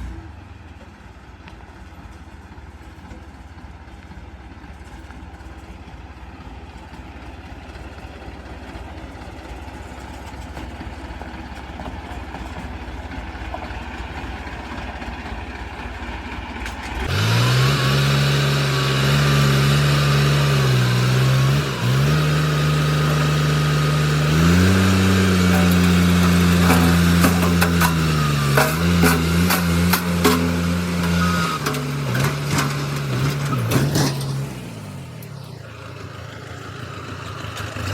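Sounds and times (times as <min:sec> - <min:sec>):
heavy diesel engine revving: 0:03.8 - 0:37.9.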